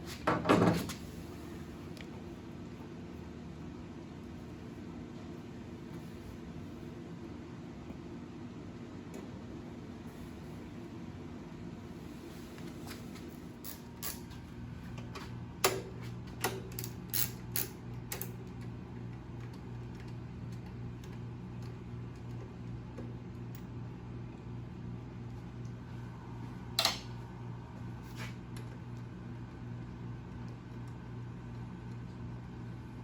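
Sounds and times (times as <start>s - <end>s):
low shop hum: 0.0s - 33.0s.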